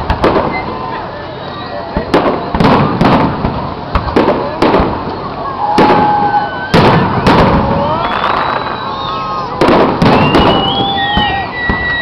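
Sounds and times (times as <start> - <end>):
fireworks bangs: 0.0 - 1.0, 1.9 - 12.0.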